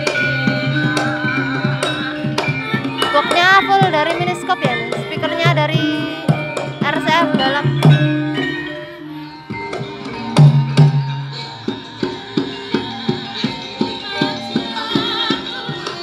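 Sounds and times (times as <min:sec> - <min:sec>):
gamelan music over loudspeakers: 0:00.0 - 0:16.0.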